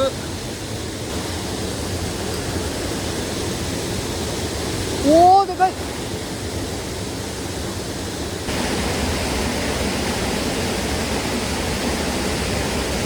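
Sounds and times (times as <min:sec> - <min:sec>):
heavy rain: 0:00.0 - 0:13.0
mountain stream rushing: 0:00.0 - 0:13.0.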